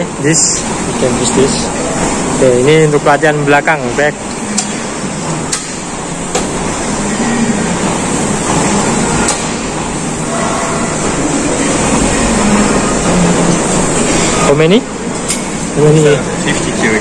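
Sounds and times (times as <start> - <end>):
busy gym noise: 0.0 - 17.0.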